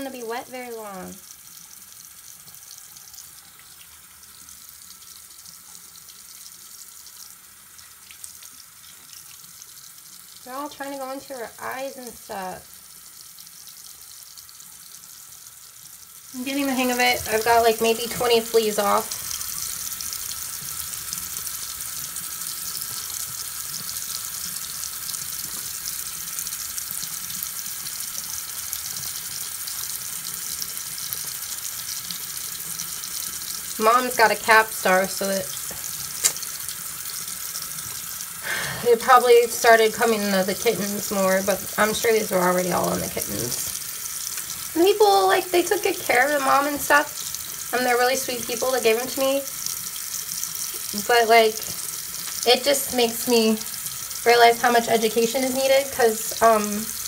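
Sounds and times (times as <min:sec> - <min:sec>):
faucet running into sink: 0:00.0 - 0:57.0.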